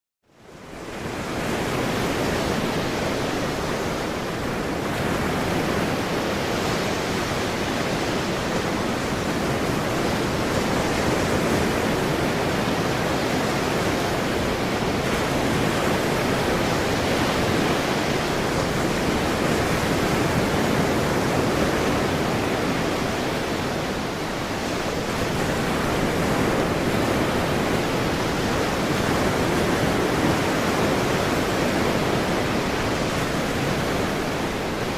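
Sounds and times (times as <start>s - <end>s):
ocean waves washing: 0.5s - 34.9s.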